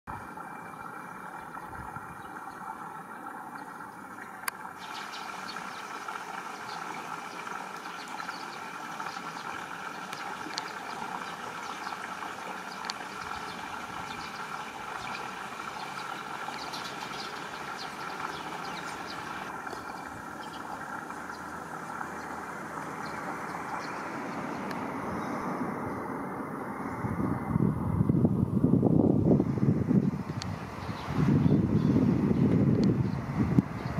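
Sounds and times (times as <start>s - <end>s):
constant rushing hiss: 0.1s - 33.9s.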